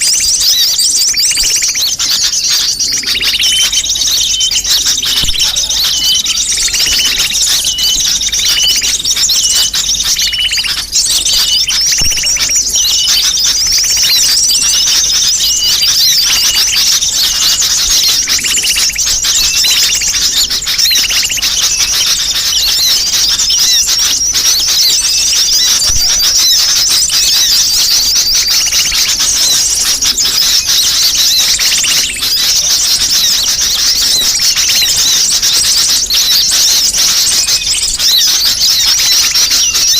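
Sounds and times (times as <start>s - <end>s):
repeated lower bird notes: 0.0s - 39.9s
small birds twittering and chirping: 0.0s - 39.9s.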